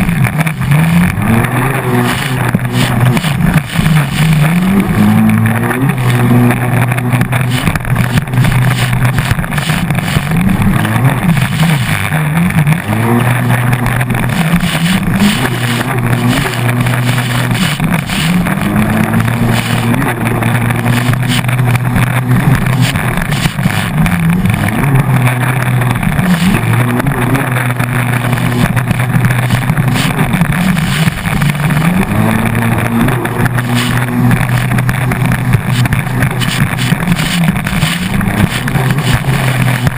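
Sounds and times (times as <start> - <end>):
jetski engine revving: 0.0 - 39.9
rush of wind and water: 0.0 - 39.9.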